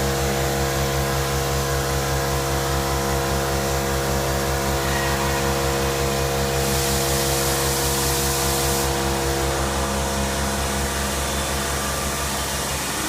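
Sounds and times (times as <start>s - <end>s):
machine humming over hiss: 0.0s - 13.0s.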